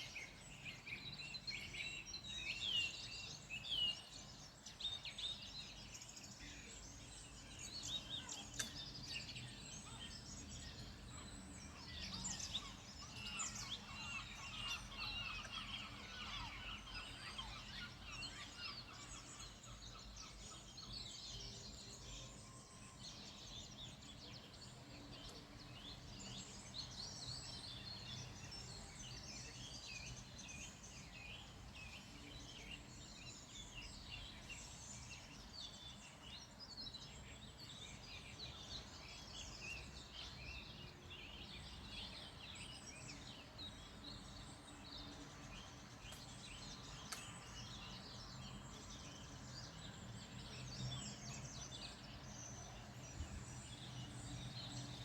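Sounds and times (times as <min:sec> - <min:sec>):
wild birds chirping and singing: 0:00.0 - 0:55.0.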